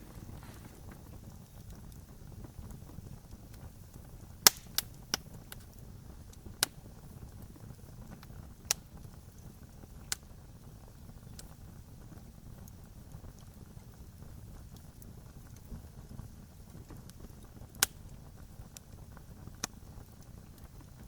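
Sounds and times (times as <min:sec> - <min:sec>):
burning wood popping: 0:00.0 - 0:21.0
low fire rumble: 0:00.0 - 0:21.0.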